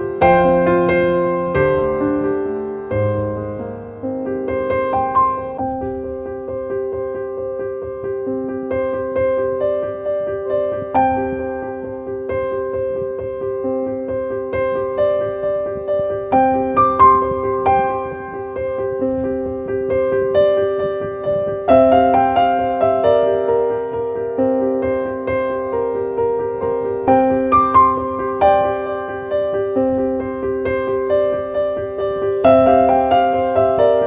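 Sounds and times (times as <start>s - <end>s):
slow piano music: 0.0s - 34.0s.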